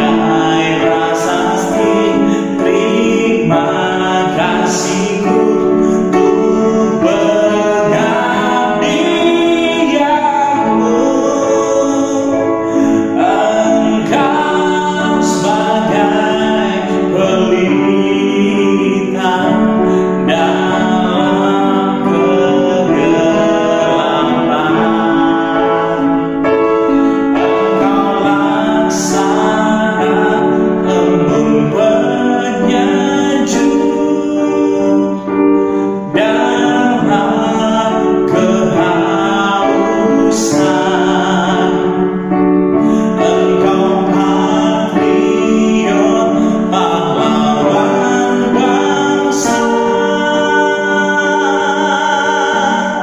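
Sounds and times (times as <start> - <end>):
electronic keyboard playing: 0.0 - 53.0
man singing: 0.0 - 53.0.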